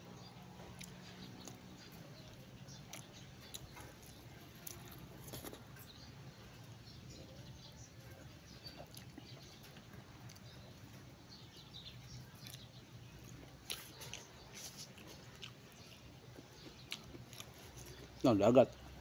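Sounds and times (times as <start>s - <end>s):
chewing food: 0.2s - 19.0s.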